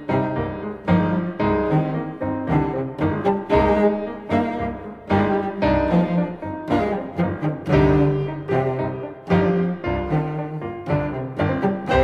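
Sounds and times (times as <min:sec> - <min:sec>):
low string instrumental music: 0:00.0 - 0:12.0.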